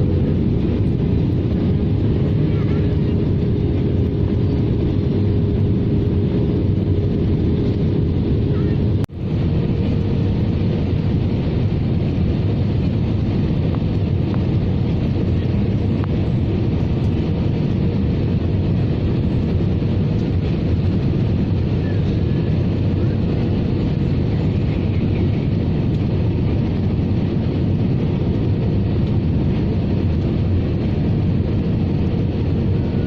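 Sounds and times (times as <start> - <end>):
aircraft cabin engine roar: 0.0 - 33.0.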